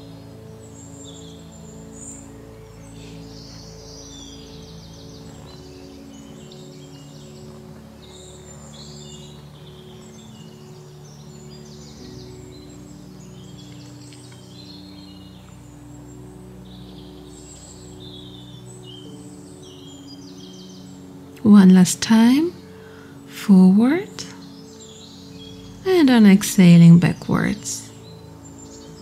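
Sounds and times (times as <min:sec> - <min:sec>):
birds chirping and trilling: 0:00.0 - 0:29.0
soft ambient music: 0:00.0 - 0:29.0.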